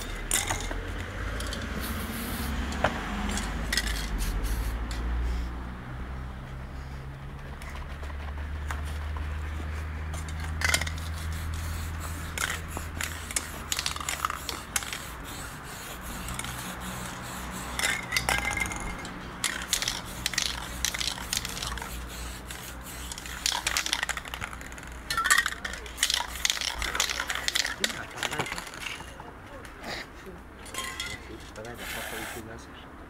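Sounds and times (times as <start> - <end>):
spray paint cans hissing: 0.0 - 5.5, 6.6 - 29.2, 30.6 - 32.6.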